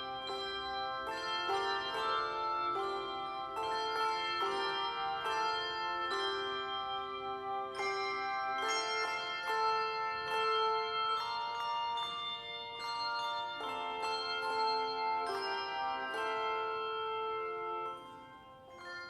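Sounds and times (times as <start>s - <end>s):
handbell choir playing: 0.0s - 19.0s.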